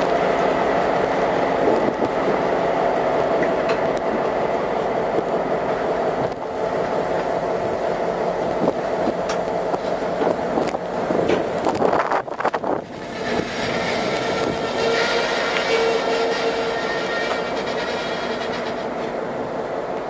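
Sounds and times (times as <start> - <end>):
freight train wheels rolling: 0.0 - 20.0.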